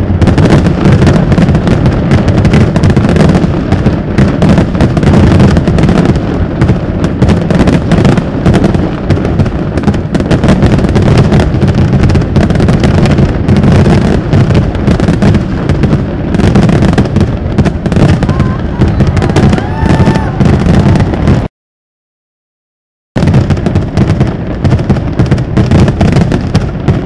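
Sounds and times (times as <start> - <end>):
fireworks booming and crackling: 0.0 - 21.5, 23.2 - 27.0.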